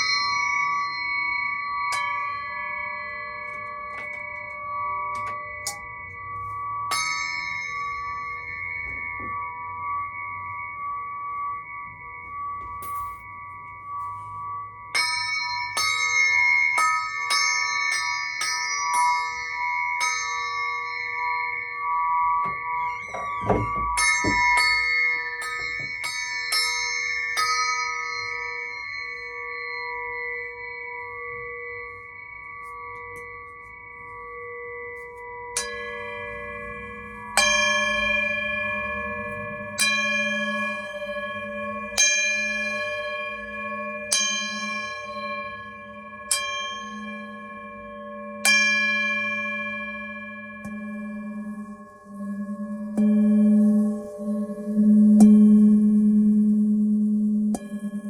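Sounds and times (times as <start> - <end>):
crystal singing pyramid ringing: 0.0 - 58.0.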